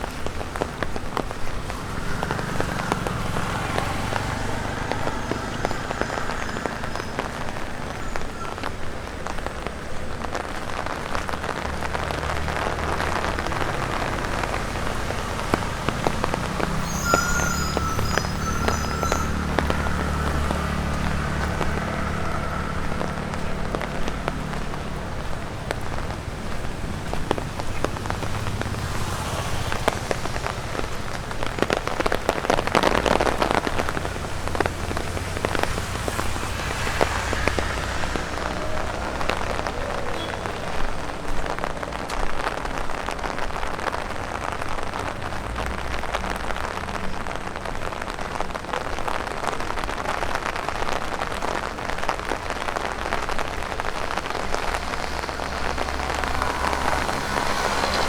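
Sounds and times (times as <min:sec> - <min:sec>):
rain tapping on an umbrella: 0:00.0 - 0:58.0
wet rain hiss: 0:00.0 - 0:58.0.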